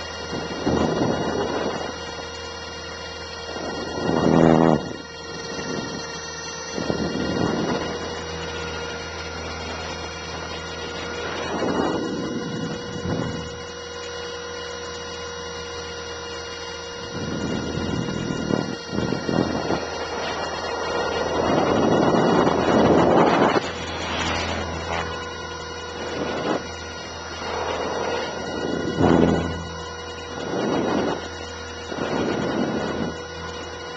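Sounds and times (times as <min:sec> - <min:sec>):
wind gusts over microphone: 0:00.0 - 0:13.8, 0:16.6 - 0:33.9
rc helicopter motor whine: 0:00.0 - 0:33.9.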